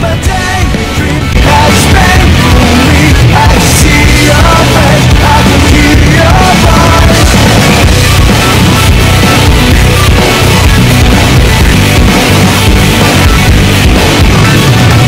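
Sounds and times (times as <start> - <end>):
loud rock music: 0.0 - 15.0
steady drum beat: 0.0 - 15.0.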